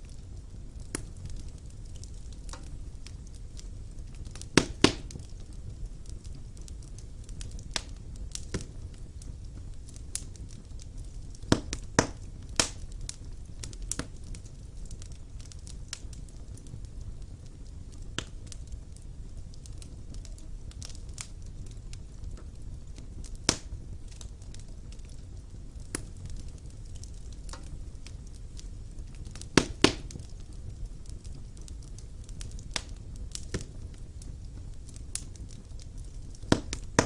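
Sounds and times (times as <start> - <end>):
fire crackling and popping: 0.0 - 37.0
rumble of flames: 0.0 - 37.0.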